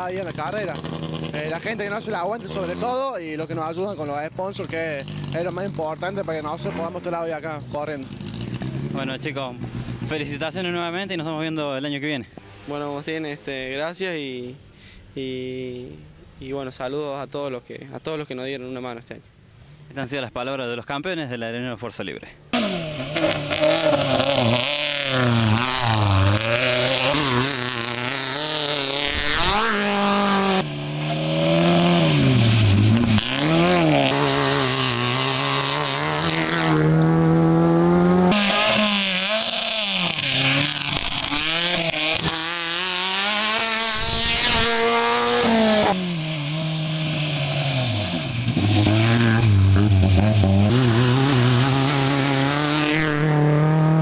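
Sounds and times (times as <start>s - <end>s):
rally car engines revving: 0.0s - 13.9s, 22.5s - 54.0s.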